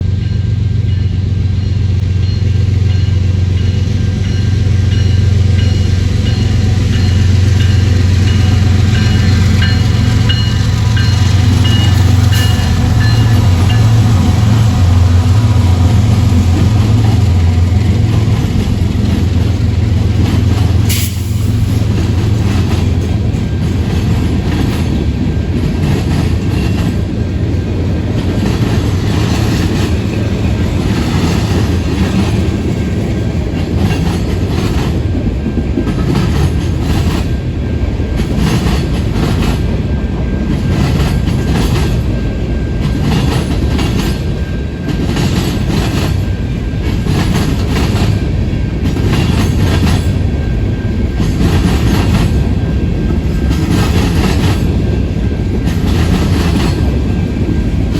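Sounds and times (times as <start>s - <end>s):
freight train rumbling: 0.0s - 57.9s
wheels clacking over rail joints: 4.3s - 37.4s, 38.1s - 57.9s.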